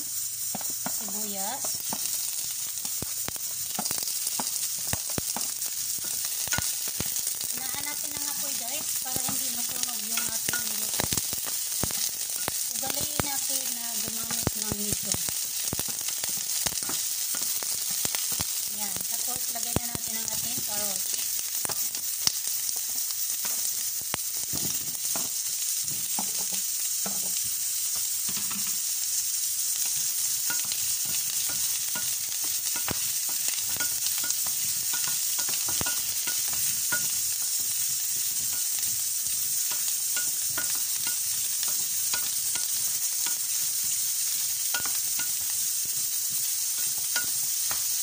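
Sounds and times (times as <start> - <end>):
onions sizzling in oil: 0.0 - 48.0.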